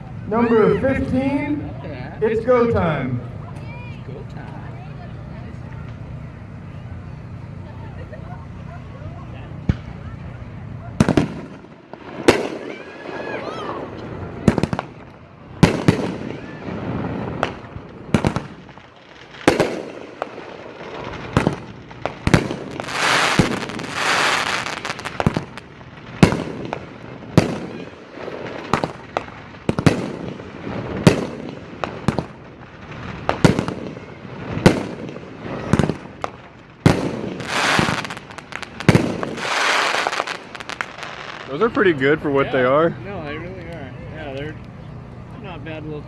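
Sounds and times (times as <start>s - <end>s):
fireworks crackling hiss: 0.0s - 46.0s
fireworks sharp reports: 0.0s - 46.0s.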